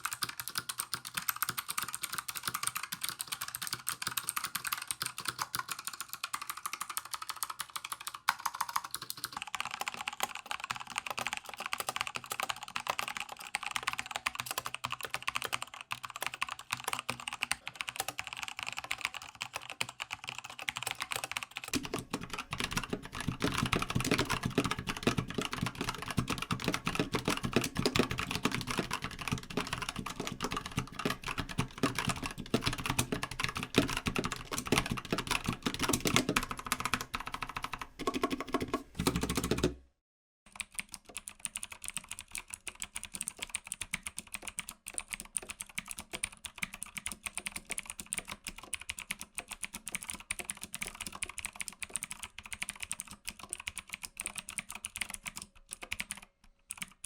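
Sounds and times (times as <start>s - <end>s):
mechanical keyboard typing: 0.0s - 39.8s, 40.5s - 57.0s.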